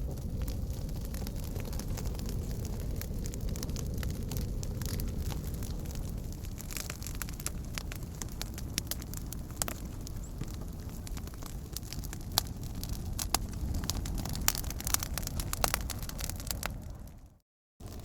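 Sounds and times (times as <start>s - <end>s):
campfire crackling and popping: 0.0s - 18.0s
low rumble of flame: 0.0s - 18.0s.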